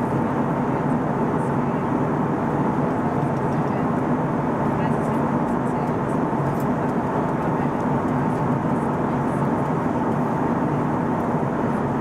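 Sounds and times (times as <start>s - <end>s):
airplane cabin noise: 0.0s - 12.0s
faint steady whine: 0.0s - 12.0s.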